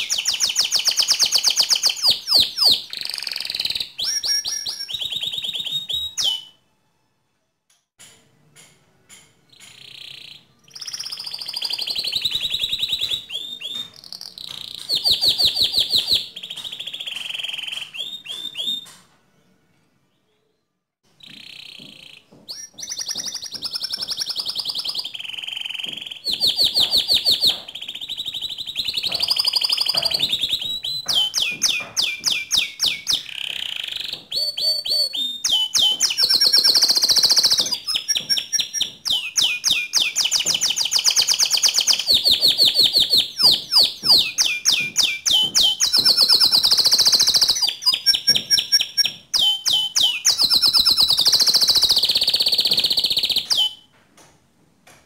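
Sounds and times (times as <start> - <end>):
canary singing: 0.0 - 6.6, 9.5 - 19.1, 21.1 - 53.9.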